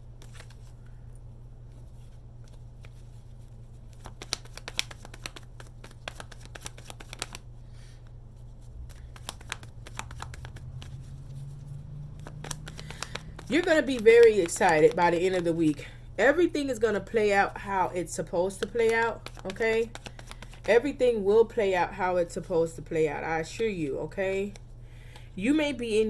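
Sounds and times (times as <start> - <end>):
steady low hum: 0.0 - 26.0
cards being shuffled: 0.1 - 15.9, 16.6 - 21.0, 24.3 - 25.3.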